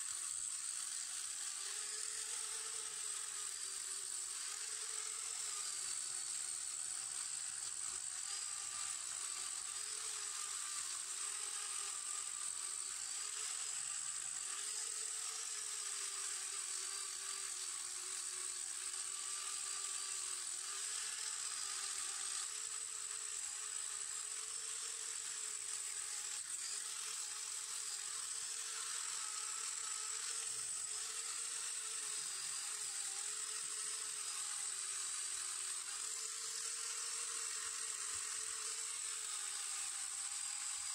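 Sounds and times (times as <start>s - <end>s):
angle grinder whining: 0.0s - 40.9s.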